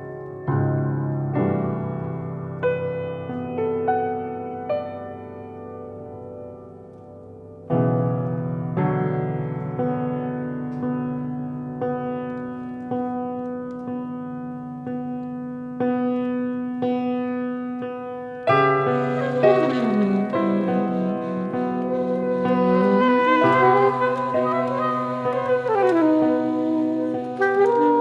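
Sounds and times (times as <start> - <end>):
slow piano piece: 0.0 - 28.0.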